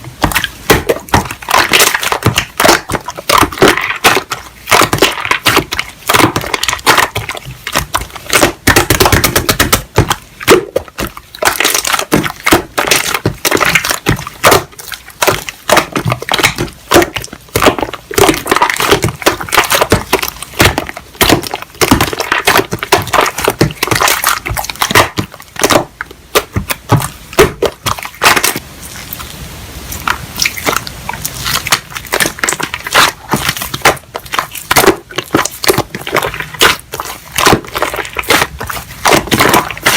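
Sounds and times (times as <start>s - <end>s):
slime crackling and popping: 0.0s - 29.3s, 29.9s - 39.9s.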